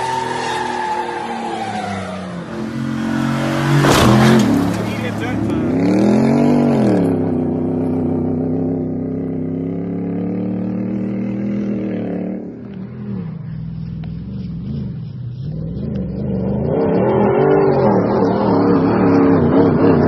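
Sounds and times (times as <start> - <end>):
pickup truck engine revving: 0.0 - 20.0
truck engine approaching: 0.0 - 20.0.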